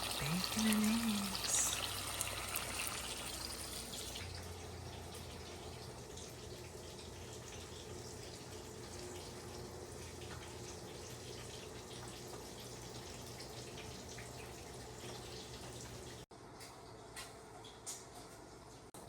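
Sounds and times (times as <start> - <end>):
bacon sizzling in a frying pan: 0.0 - 16.2.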